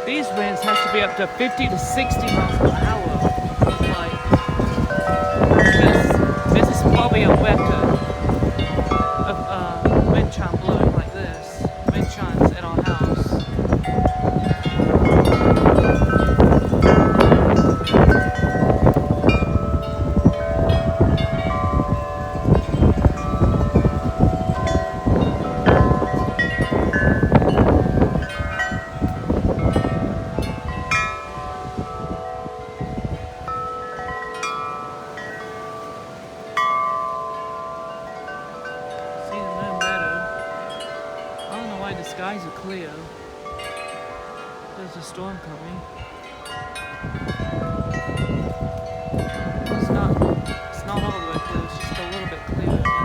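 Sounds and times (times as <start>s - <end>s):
wind buffeting microphone: 0.0s - 53.0s
wind chimes clanging: 0.0s - 53.0s.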